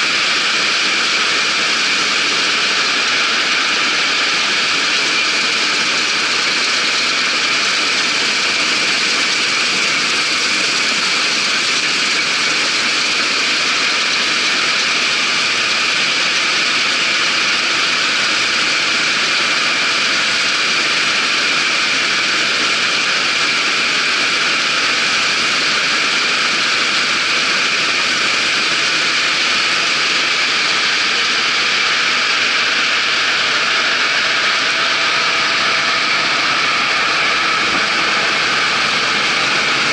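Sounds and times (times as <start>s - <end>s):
combine harvester running: 0.0s - 39.9s
steady high whine: 0.0s - 39.9s.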